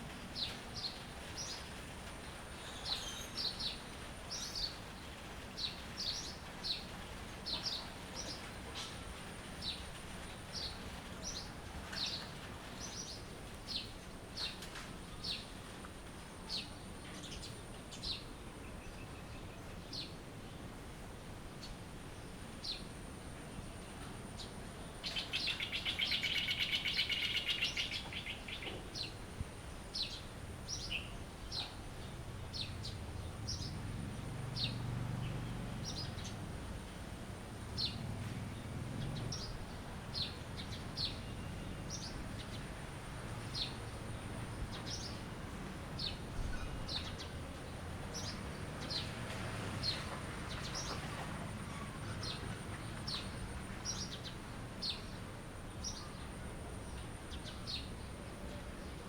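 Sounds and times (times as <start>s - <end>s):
songbirds trilling and chirping: 0.0s - 20.8s, 21.5s - 59.0s.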